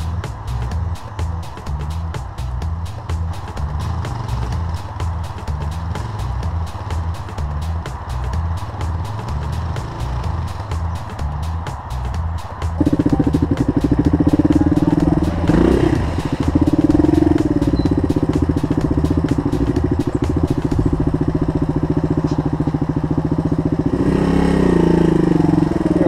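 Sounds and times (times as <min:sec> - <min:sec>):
dirt bike engine idling: 0:00.0 - 0:26.0.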